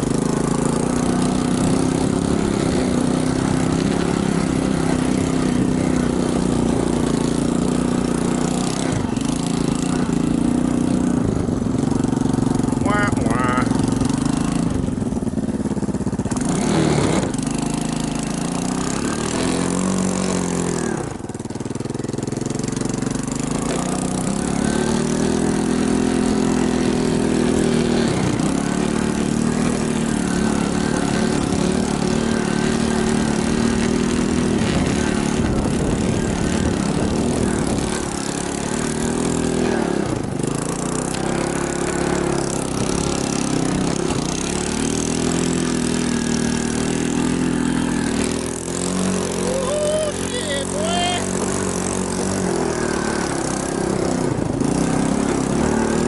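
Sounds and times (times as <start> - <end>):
small engine revving: 0.0 - 56.0.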